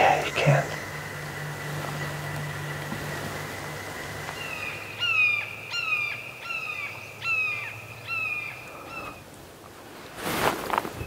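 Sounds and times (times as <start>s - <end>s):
bird calling falling notes: 0.0s - 9.2s.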